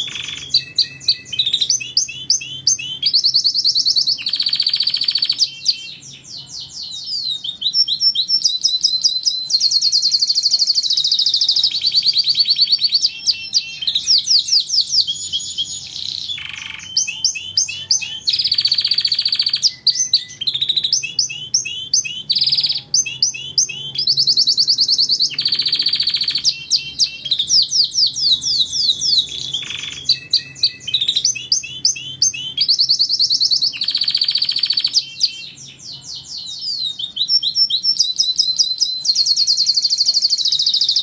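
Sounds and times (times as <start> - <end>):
canary singing: 0.0 - 41.0.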